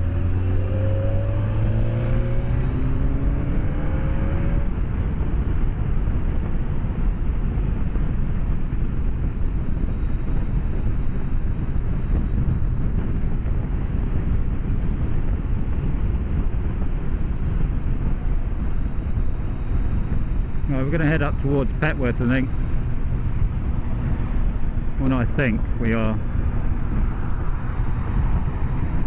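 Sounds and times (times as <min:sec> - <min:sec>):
wind and road noise on motorcycle: 0:00.0 - 0:29.0.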